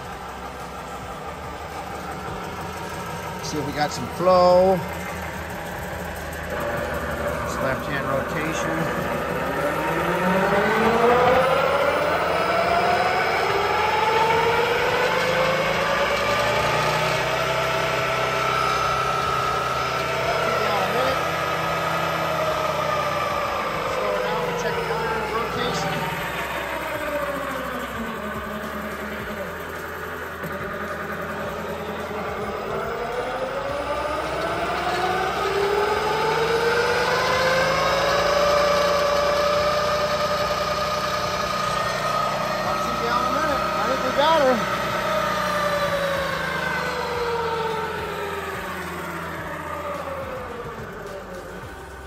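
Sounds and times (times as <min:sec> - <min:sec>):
rising whine: 0:00.0 - 0:52.0
transmission mechanical running noise: 0:00.0 - 0:52.0.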